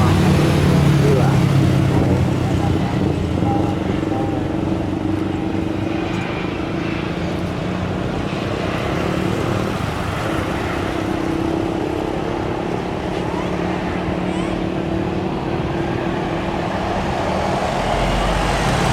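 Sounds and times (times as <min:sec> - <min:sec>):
engine rumble: 0:00.0 - 0:18.9
noisy background: 0:00.0 - 0:18.9.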